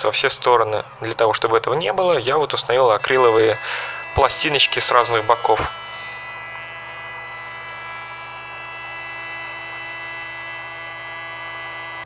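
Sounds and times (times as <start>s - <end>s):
milling machine spindle whine: 0.0s - 12.0s.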